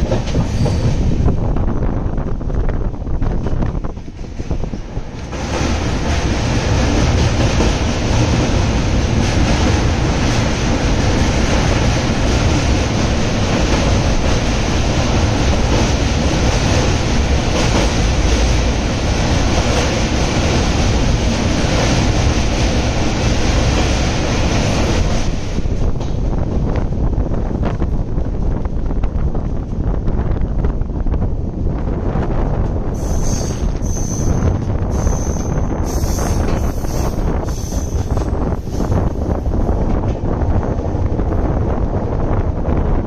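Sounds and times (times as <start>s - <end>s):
train wheels rumbling and rattling: 0.0s - 43.0s.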